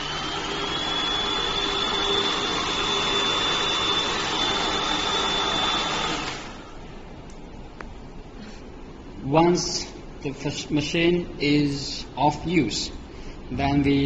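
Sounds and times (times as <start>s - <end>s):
high steady whine: 0.0s - 14.0s.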